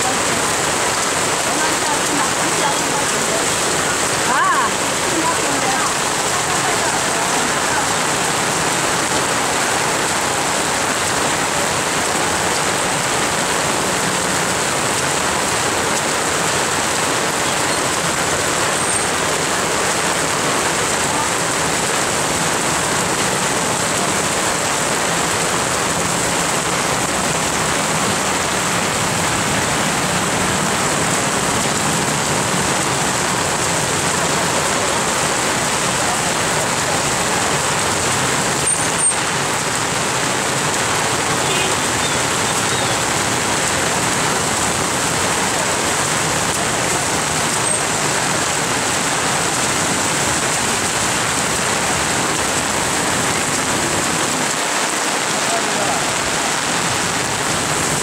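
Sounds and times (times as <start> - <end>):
heavy rain on wet road: 0.0 - 58.0.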